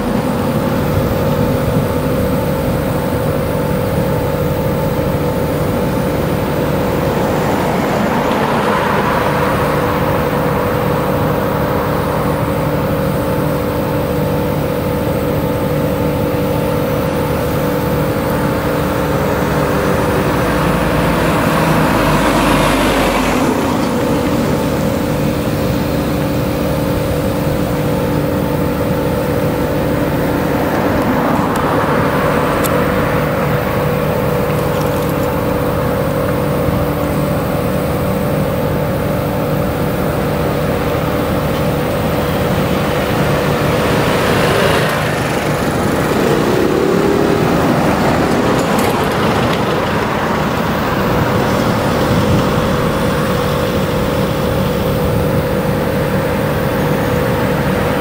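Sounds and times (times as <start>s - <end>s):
tractor engines droning: 0.0s - 58.0s.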